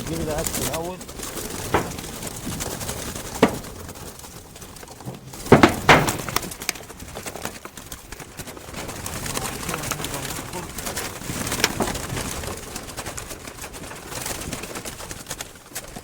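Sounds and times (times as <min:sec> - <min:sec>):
doves flapping wings: 0:00.0 - 0:16.0.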